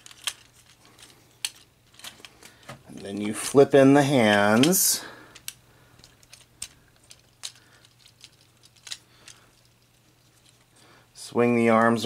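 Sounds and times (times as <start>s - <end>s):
plastic toy parts clicking: 0.0s - 3.5s, 4.3s - 10.6s.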